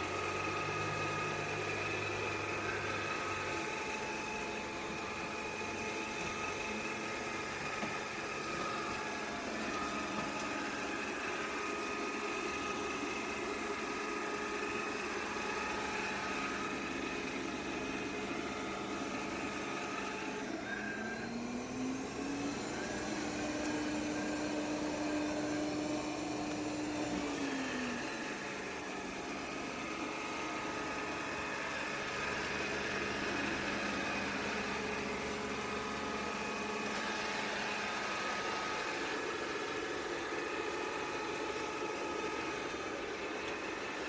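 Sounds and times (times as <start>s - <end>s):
robot vacuum motor humming: 0.0s - 44.0s.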